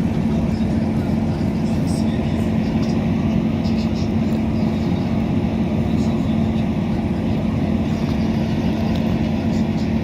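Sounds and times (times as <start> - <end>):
diesel train engine droning: 0.0 - 10.0.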